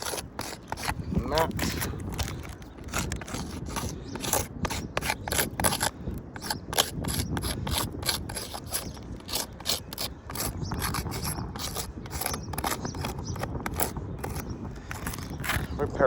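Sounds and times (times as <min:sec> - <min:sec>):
scraping on shingle roof: 0:00.0 - 0:16.0.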